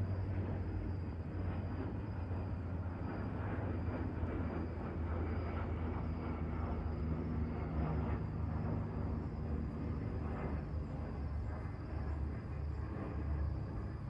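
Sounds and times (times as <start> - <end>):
distant aircraft rumble: 0.0 - 14.0.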